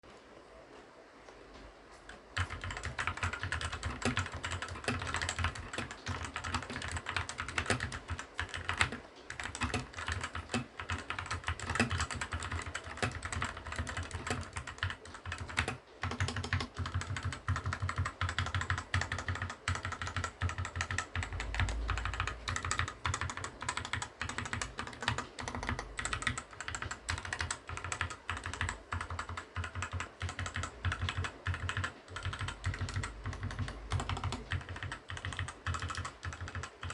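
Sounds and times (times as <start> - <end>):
mechanical keyboard typing: 2.1 - 36.9.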